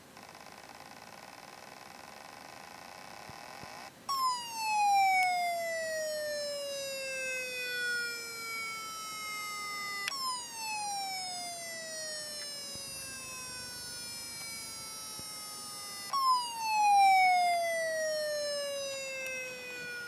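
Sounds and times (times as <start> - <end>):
hard drive whine sliding in pitch: 0.0 - 20.0.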